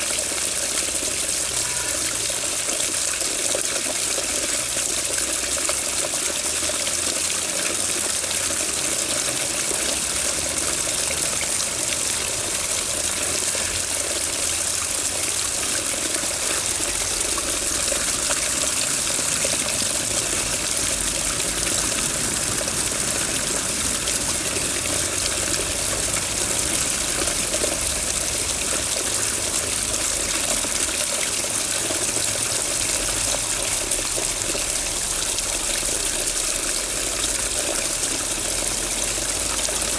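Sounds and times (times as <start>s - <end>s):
water running: 6.7s - 39.9s.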